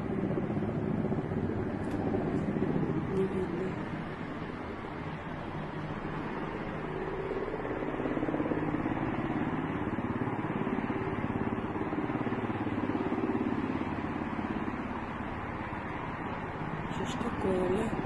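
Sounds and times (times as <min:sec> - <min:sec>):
helicopter flying overhead: 0:00.0 - 0:18.0.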